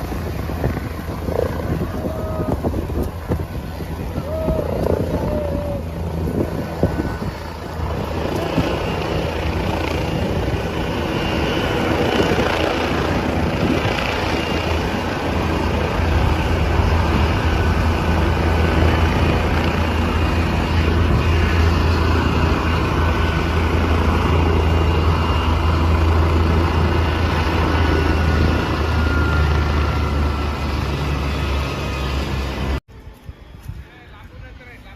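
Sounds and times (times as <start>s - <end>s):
faint helicopter whine: 0.0s - 34.9s
helicopter rotor drone: 0.0s - 34.9s.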